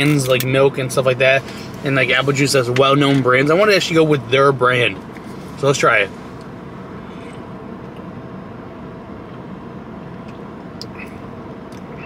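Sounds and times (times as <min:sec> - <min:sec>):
car interior hum: 0:00.0 - 0:12.0.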